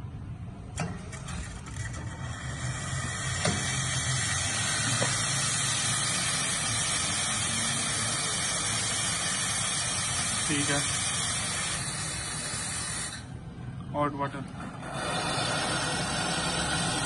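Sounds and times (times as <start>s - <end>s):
espresso machine steam hissing: 1.4s - 13.4s, 14.6s - 17.0s.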